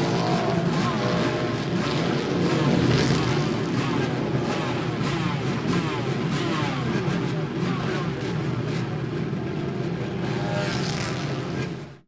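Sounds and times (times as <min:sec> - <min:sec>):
motorcycle engines running: 0:00.0 - 0:11.8.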